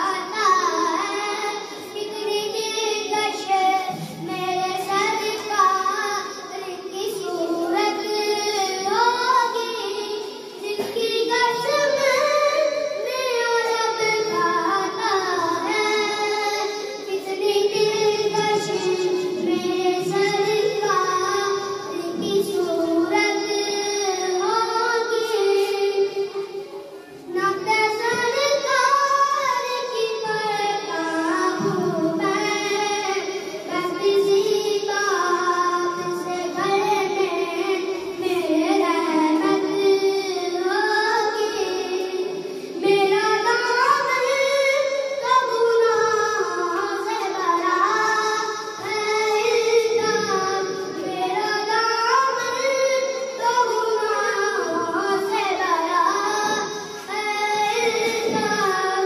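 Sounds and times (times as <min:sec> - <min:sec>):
boy singing into a microphone: 0:00.0 - 0:59.0.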